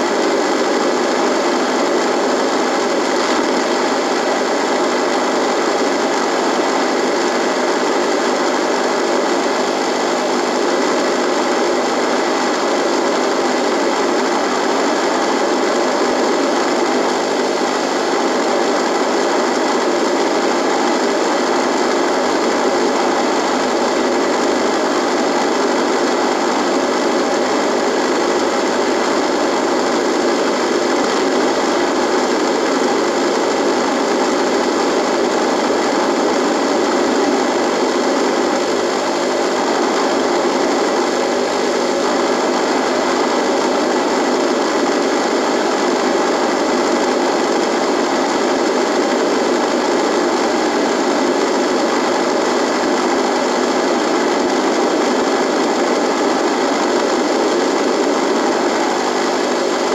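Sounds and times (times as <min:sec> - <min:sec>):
radio buzz and static: 0:00.0 - 0:59.9
steady hum: 0:00.0 - 0:59.9.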